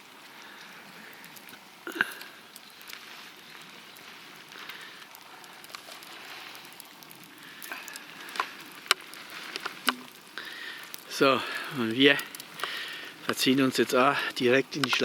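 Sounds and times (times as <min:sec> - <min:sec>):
campfire crackling: 0:00.0 - 0:15.0
steady hiss: 0:00.0 - 0:15.0.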